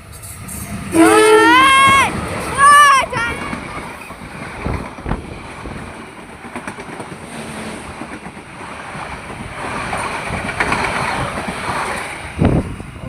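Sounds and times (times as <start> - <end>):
passenger train passing: 0.0 - 13.0
wind buffeting microphone: 1.8 - 13.0.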